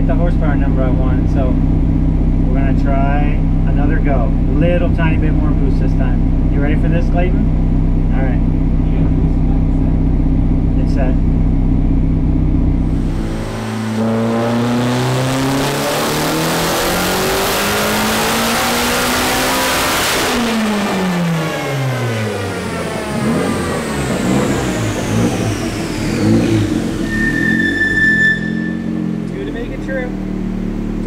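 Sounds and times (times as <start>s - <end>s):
car engine revving: 0.0s - 31.0s
high turbo whine: 0.0s - 31.0s.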